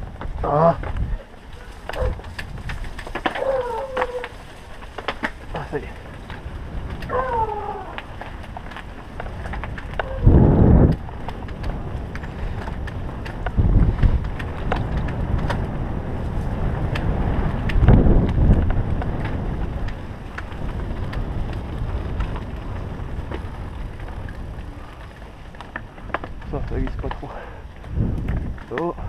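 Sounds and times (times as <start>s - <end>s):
bike rattling: 0.0s - 29.0s
sharp clicks over bumps: 0.0s - 29.0s
tyres rolling over leaves and dirt: 0.0s - 29.0s
wind rushing on microphone: 0.0s - 29.0s.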